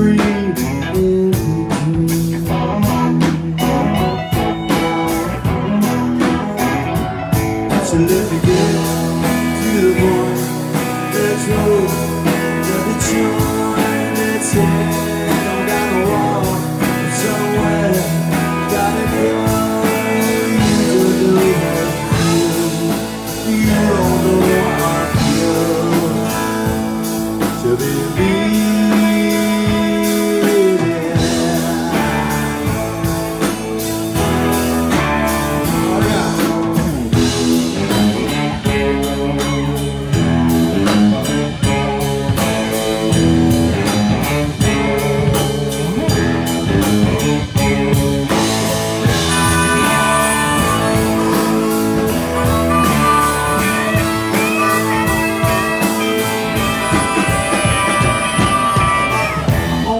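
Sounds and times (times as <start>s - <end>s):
harmonica: 0.0s - 59.9s
live rock band playing: 0.0s - 59.9s.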